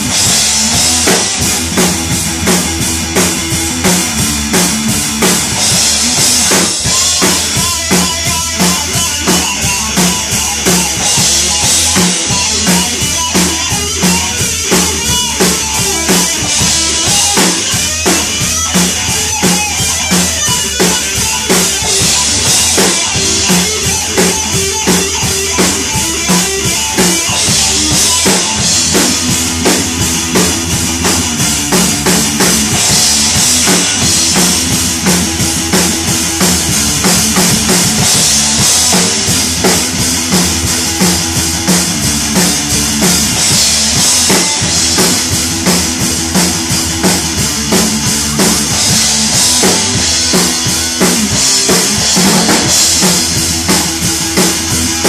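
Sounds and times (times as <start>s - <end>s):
drum kit beat: 0.0s - 55.0s
electric bass: 0.0s - 55.0s
electric guitar: 0.0s - 55.0s.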